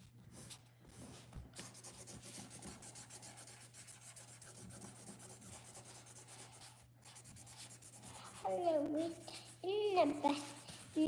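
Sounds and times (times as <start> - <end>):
rubbing and scratching on tabletop: 0.0 - 11.0.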